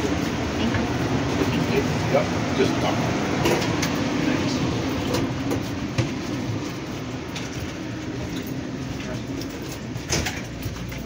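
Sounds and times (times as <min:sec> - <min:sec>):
murmur of people talking: 0:00.0 - 0:11.0.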